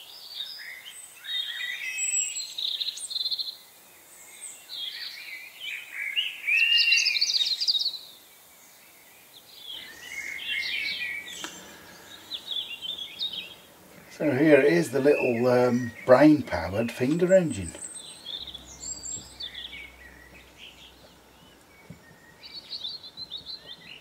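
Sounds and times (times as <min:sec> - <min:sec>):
birdsong chirps and trills: 0:00.0 - 0:24.0.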